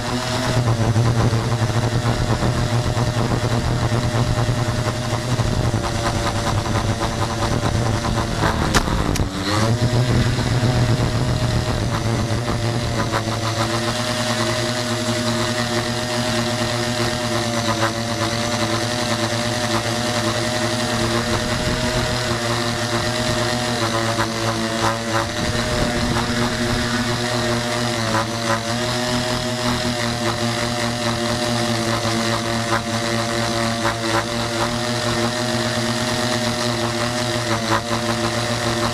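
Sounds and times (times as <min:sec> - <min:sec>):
drone propellers buzzing: 0:00.0 - 0:38.9.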